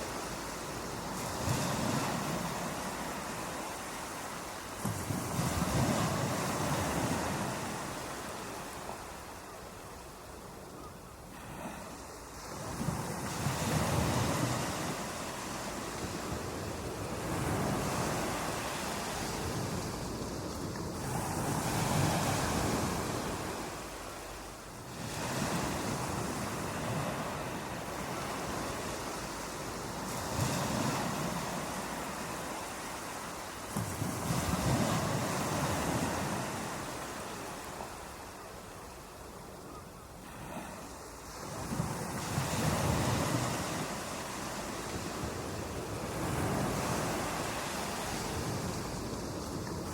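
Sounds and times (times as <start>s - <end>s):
ocean waves breaking on beach: 0.0s - 49.9s.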